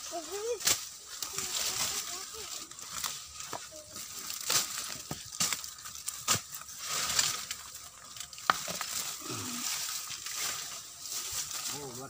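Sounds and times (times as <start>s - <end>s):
leaves rustling and crackling: 0.0s - 12.0s
twigs snapping: 0.5s - 11.8s.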